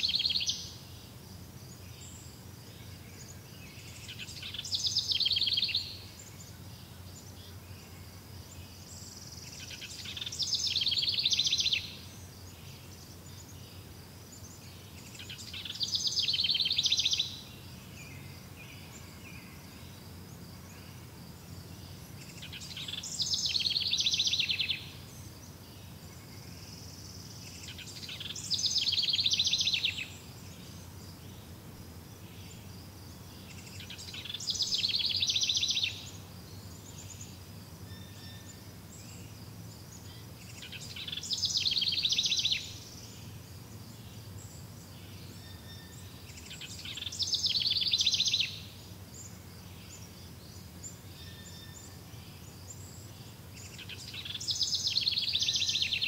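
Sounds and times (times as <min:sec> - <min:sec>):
faint low steady hum: 0:00.0 - 0:56.0.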